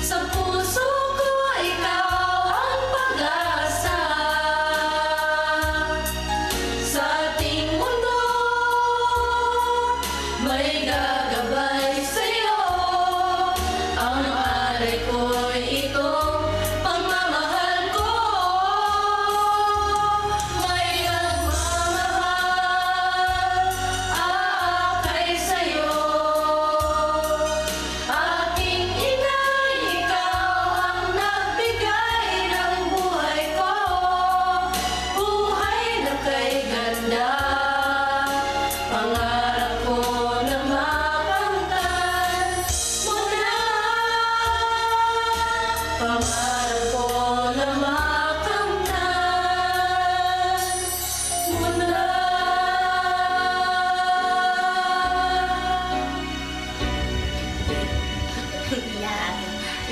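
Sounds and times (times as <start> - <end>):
group singing in harmony: 0.0 - 59.9.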